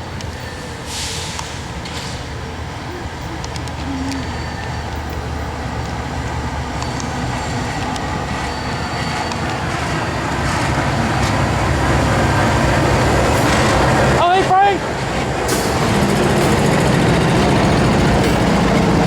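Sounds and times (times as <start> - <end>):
freight train rumbling by: 0.0 - 19.0
train clicks: 3.1 - 19.0.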